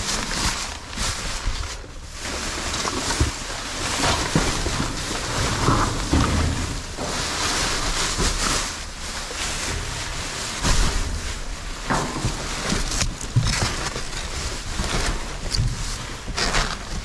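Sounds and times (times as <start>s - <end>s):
rustling and knocks in dumpster: 0.0s - 17.0s.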